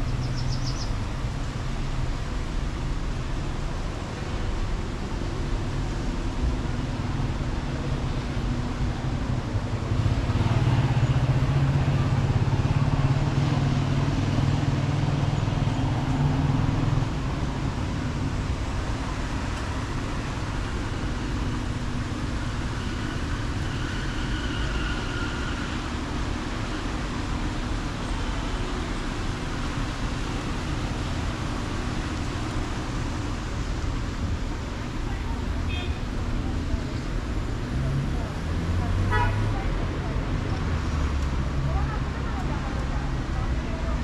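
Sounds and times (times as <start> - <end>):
passing cars: 0.0 - 44.0.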